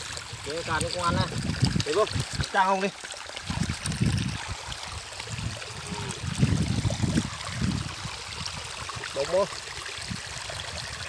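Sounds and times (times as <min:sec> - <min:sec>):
water trickling over stones: 0:00.0 - 0:11.0.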